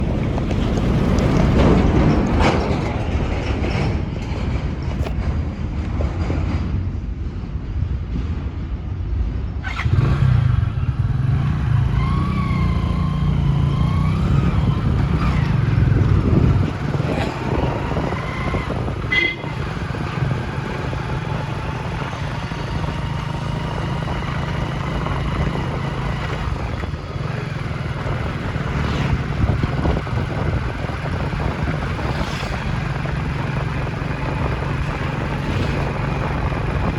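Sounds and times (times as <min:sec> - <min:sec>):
vehicle engine and road noise: 0:00.0 - 0:36.9.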